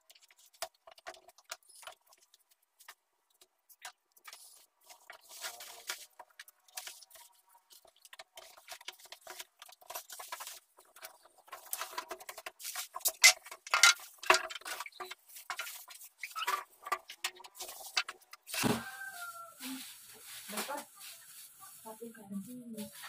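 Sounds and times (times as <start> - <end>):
packaging crinkling and rustling: 3.8 - 23.0.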